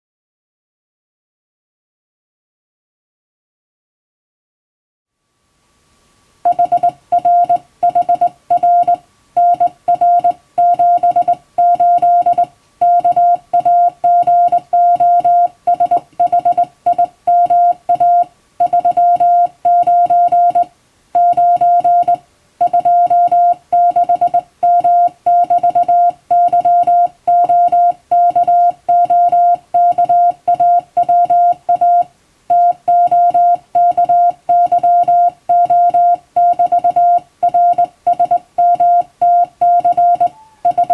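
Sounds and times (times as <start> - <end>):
morse code tone: 6.5 - 40.9.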